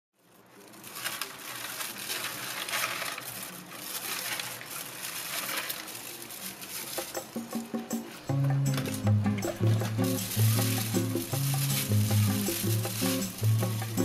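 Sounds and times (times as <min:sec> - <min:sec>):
plastic wrap crinkling: 0:00.2 - 0:14.0
crushed ice crunching in metal tray: 0:00.4 - 0:07.6, 0:08.7 - 0:14.0.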